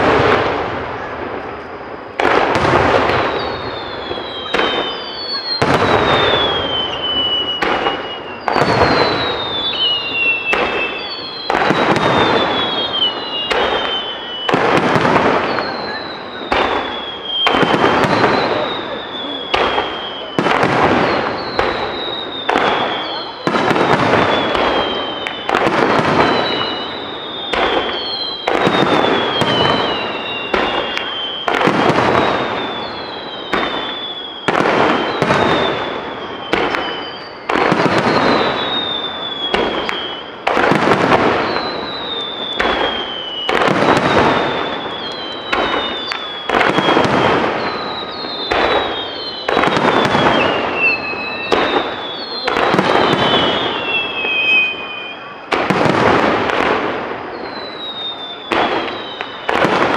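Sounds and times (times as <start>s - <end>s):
falling firework whistles: 0.0s - 59.9s
firework crackling: 0.0s - 59.9s.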